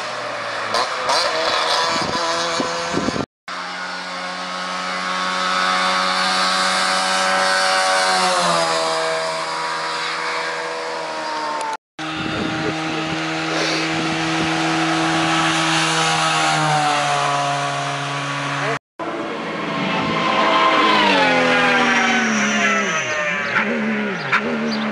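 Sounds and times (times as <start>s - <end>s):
rally car engines at high revs: 0.0s - 24.9s
two-stroke car passing close: 0.0s - 24.9s.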